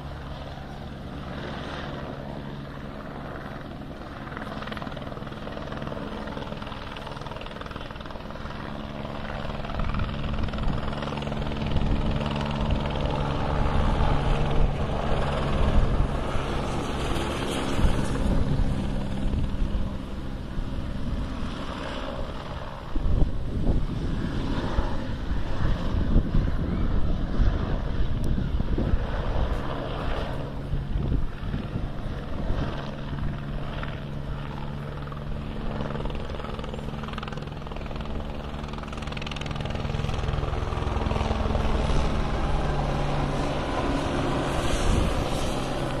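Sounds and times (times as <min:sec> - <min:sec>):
helicopter flying overhead: 0:00.0 - 0:46.0.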